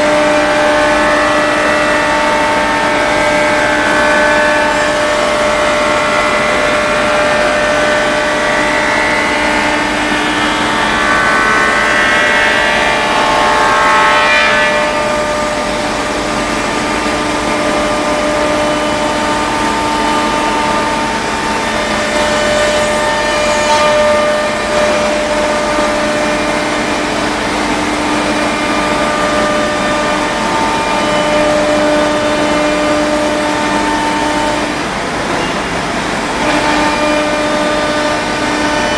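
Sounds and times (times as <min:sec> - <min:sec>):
router cutting plywood: 0:00.0 - 0:38.9
router spindle whining: 0:00.0 - 0:38.9.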